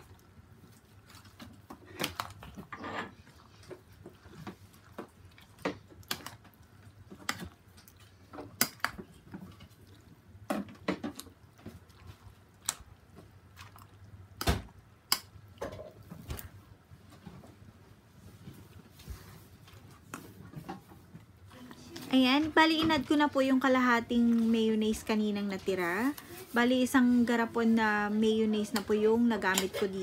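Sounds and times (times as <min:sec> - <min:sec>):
wet squishing of stirred salad: 0:00.0 - 0:16.6, 0:18.2 - 0:30.0.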